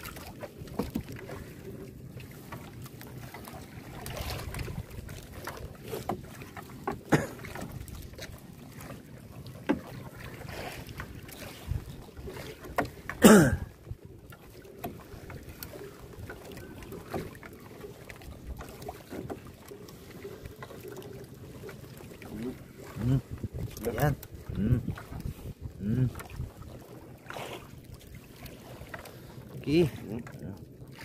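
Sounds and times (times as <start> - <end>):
water washing against hull: 0.0 - 31.0.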